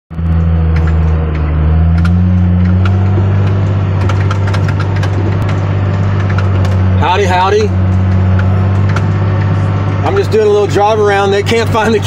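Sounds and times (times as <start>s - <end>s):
diesel engine running: 0.1s - 12.0s
sharp clicks and rattles: 0.1s - 12.0s.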